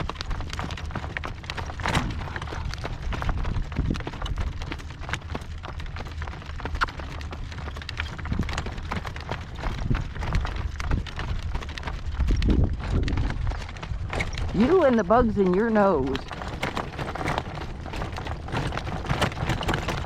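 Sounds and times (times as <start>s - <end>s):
horse hooves clopping: 0.0s - 20.0s
wind buffeting microphone: 0.0s - 20.0s.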